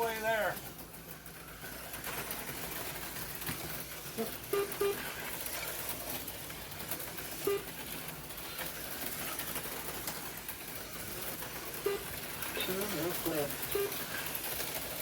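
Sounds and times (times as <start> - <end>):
slot cars whirring: 0.0 - 15.0.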